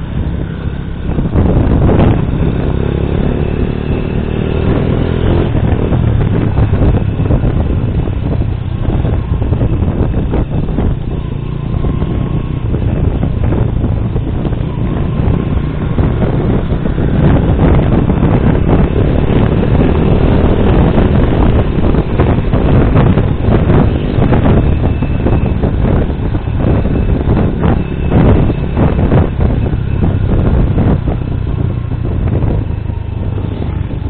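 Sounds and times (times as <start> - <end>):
motorcycle engine: 0.0 - 34.0
wind rushing over microphone: 0.0 - 34.0.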